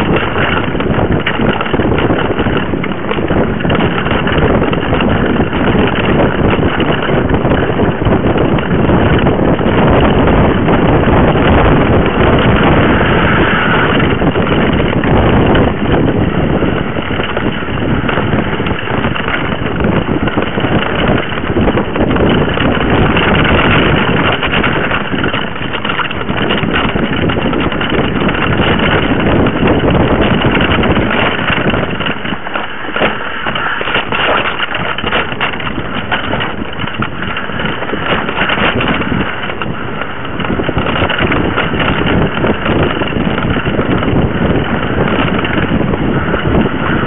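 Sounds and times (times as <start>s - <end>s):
bike and mount rattling: 0.0s - 47.0s
bike tyre rumbling on dirt trail: 0.0s - 47.0s.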